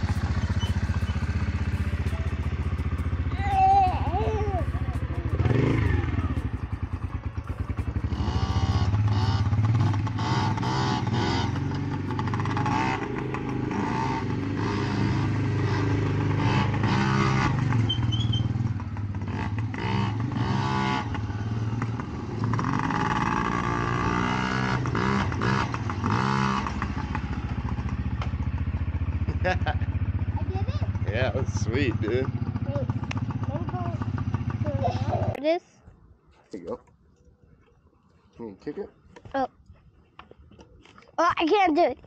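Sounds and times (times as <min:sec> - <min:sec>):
dirt bike engine revving: 0:00.0 - 0:35.3.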